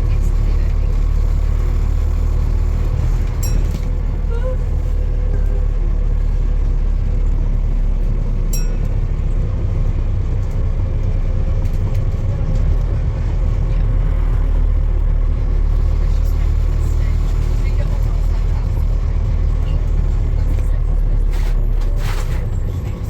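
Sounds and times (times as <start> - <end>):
motor vehicle rumbling: 0.0 - 23.0.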